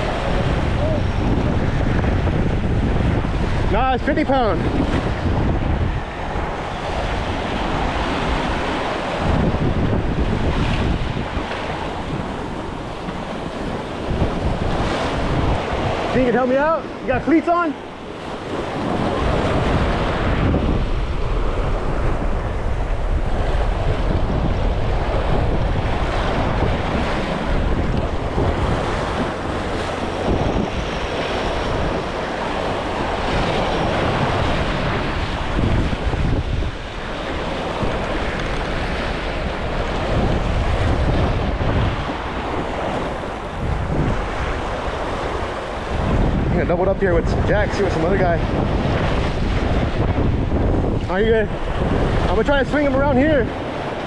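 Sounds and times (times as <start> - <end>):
waves washing against rocks: 0.0 - 54.0
wind buffeting microphone: 0.0 - 54.0.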